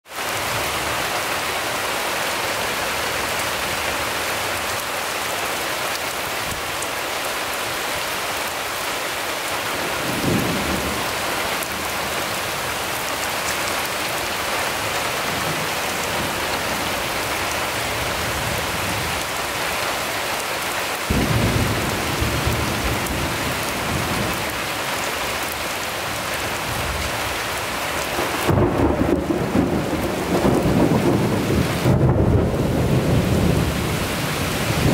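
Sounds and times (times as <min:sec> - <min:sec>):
heavy rain on pavement: 0:00.0 - 0:34.9.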